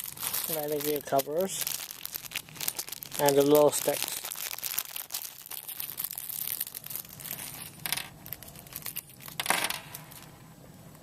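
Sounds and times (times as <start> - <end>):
plastic bags crinkling: 0.0 - 10.3.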